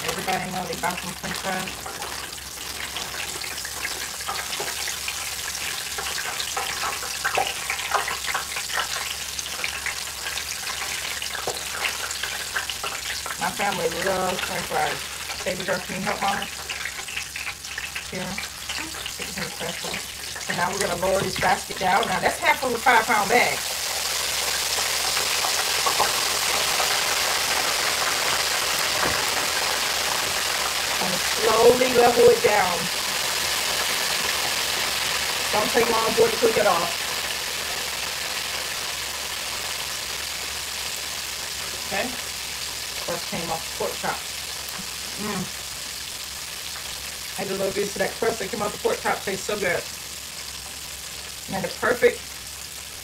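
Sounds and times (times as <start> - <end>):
fries sizzling in deep fryer: 0.0 - 53.0
hot oil hissing: 0.0 - 53.0.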